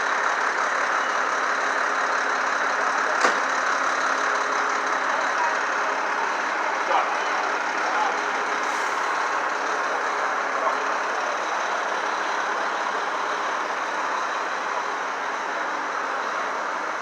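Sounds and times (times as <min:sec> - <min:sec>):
city street traffic: 0:00.0 - 0:17.0
truck engines idling: 0:00.0 - 0:17.0.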